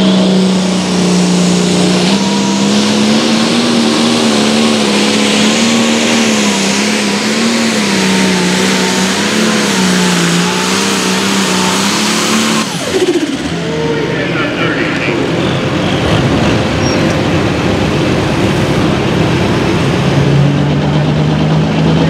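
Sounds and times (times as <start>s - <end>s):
diesel engine running flat out: 0.0s - 22.0s.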